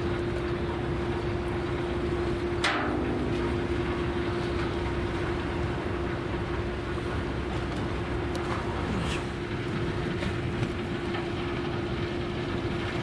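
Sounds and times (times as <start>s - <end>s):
low rumble with hum: 0.0s - 13.0s.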